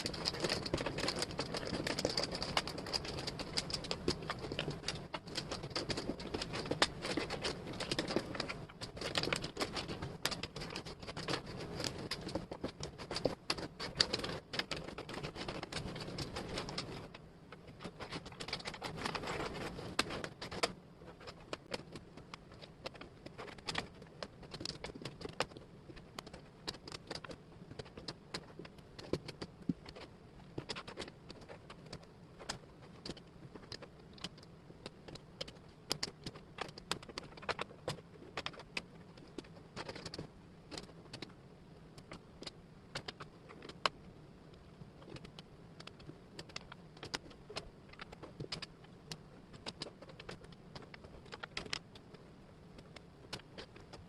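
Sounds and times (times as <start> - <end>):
wooden puzzle pieces clicking: 0.0 - 54.0.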